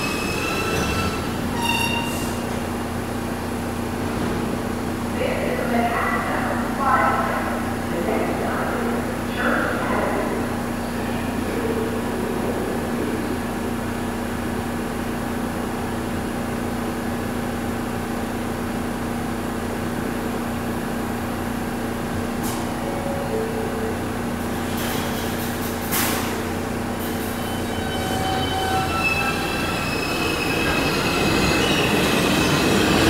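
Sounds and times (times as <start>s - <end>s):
subway car equipment humming: 0.0s - 33.0s.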